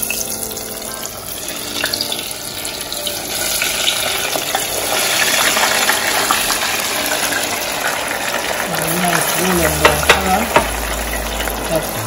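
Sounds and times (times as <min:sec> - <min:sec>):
hot oil sizzling and bubbling: 0:00.0 - 0:12.0.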